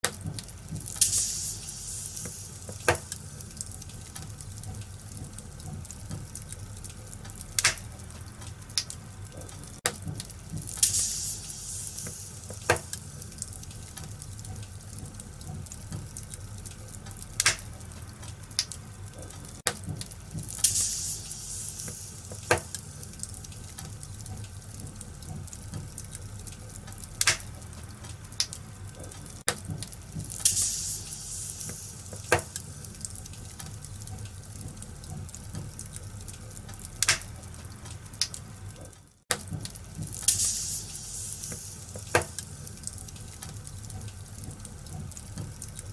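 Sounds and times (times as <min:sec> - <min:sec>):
low rumble of fire: 0:00.0 - 0:45.9
wood fire crackling and popping: 0:00.0 - 0:45.9
fire hissing: 0:00.2 - 0:38.8, 0:39.4 - 0:45.9.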